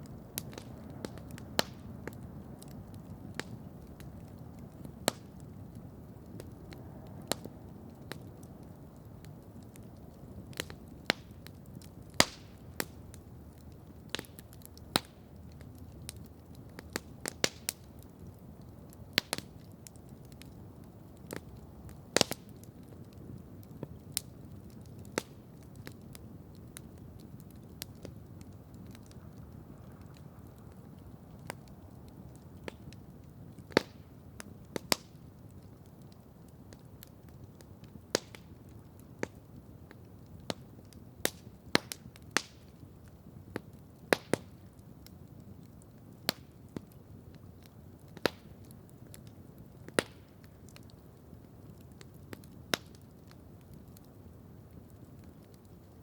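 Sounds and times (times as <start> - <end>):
campfire crackling: 0.0 - 56.0
sharp pops of fire: 0.0 - 56.0.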